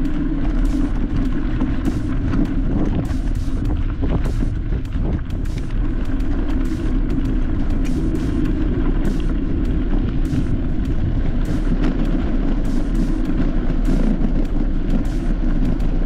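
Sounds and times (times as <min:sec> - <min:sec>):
vehicle rumbling over rough ground: 0:00.0 - 0:16.0.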